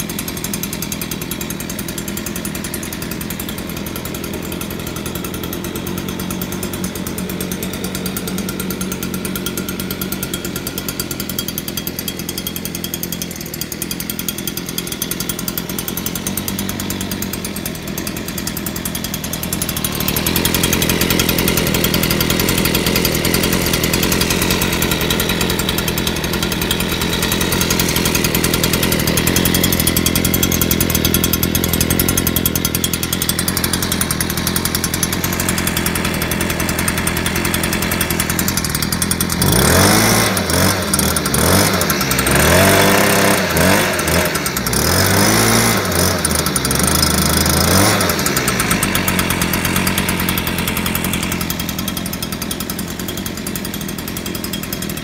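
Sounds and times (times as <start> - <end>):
leaf blower engine running: 0.0 - 55.0.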